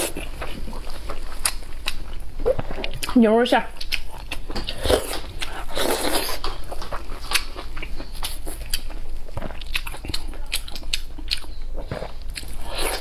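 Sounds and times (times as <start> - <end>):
person biting and chewing food: 0.0 - 13.0.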